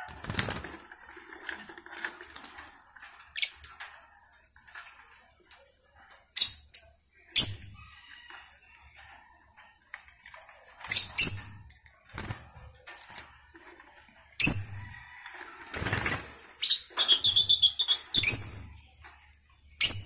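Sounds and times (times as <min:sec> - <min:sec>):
wings fluttering: 0:00.0 - 0:20.0
birds chirping: 0:02.6 - 0:15.2, 0:16.1 - 0:20.0.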